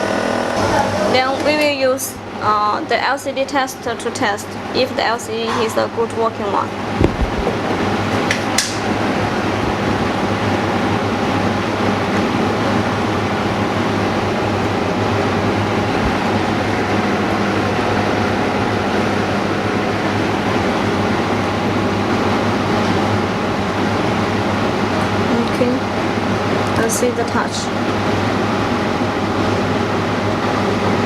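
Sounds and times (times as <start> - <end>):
machinery hum and hiss: 0.0 - 31.0.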